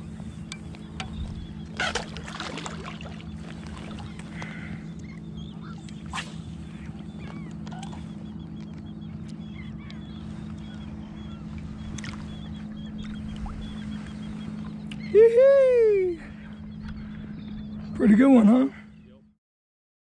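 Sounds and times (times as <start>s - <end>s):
wind: 0.0s - 19.4s.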